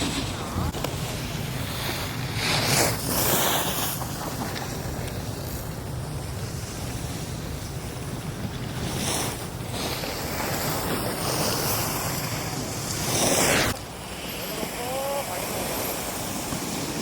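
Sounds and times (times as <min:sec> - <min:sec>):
ski edges scraping snow: 0:00.0 - 0:17.0
wind rushing over microphone: 0:00.0 - 0:17.0.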